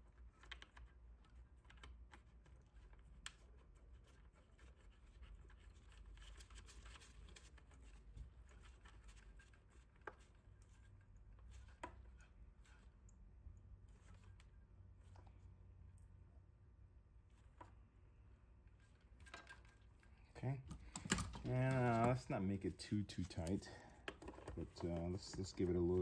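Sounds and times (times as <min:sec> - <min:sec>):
light clicks and soft scraping: 0:00.0 - 0:16.3, 0:17.2 - 0:26.0
low steady hum: 0:00.0 - 0:26.0.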